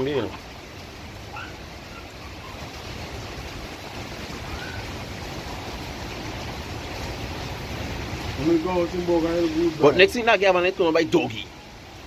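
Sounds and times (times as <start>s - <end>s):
hurricane wind and rain: 0.0s - 12.0s.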